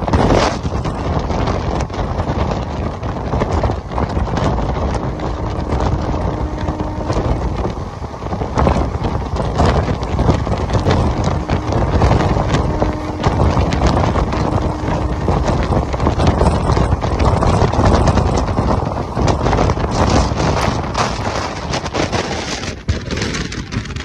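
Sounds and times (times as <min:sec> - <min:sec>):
train wheels rumbling on rails: 0:00.0 - 0:24.0
wind buffeting microphone: 0:00.0 - 0:24.0.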